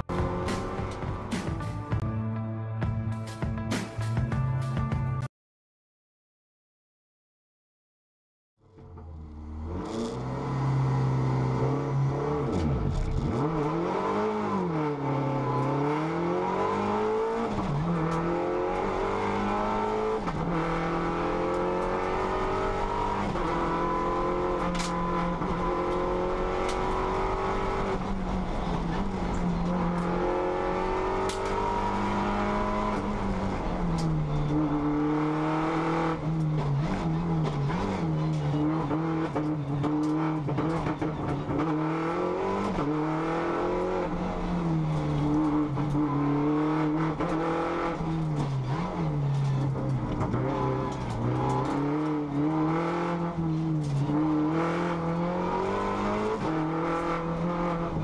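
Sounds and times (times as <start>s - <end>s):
race car engine revving: 9.2s - 58.0s.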